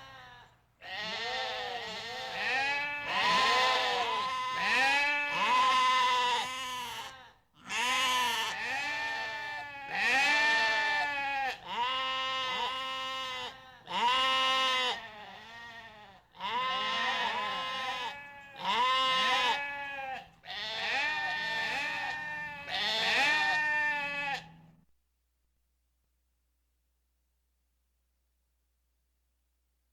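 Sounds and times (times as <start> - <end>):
goats bleating: 0.0 - 24.6.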